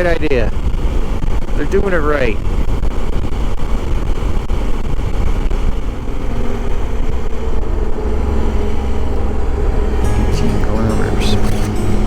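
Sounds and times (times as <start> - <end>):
wind noise: 0.0 - 9.7.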